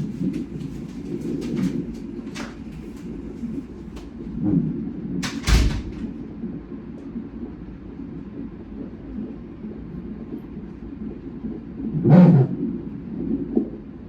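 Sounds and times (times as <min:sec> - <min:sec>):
whooshing fetal heartbeat: 0:00.0 - 0:14.0.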